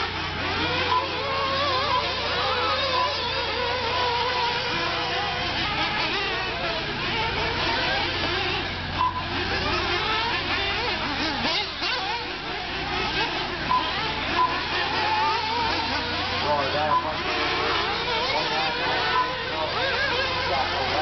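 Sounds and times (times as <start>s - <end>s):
small engines buzzing and revving: 0.0s - 21.0s
steady low hum: 0.0s - 21.0s.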